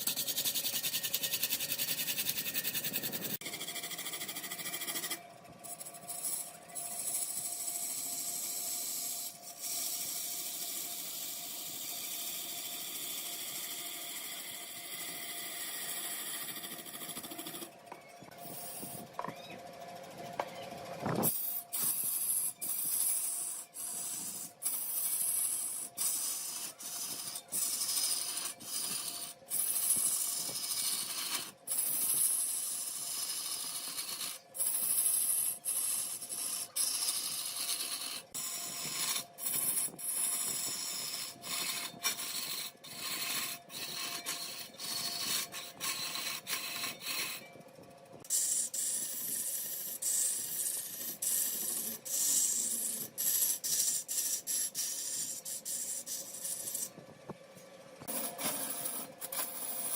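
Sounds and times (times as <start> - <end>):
lathe tool rasping wood: 0.0 - 17.7, 21.3 - 47.5, 48.2 - 56.9, 58.0 - 59.9.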